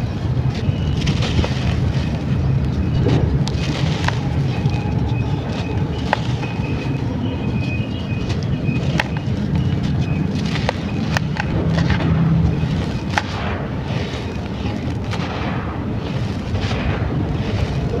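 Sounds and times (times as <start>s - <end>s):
sand-clay crumbling and crunching: 0.0s - 18.0s
sharp crackles and snaps: 0.2s - 18.0s.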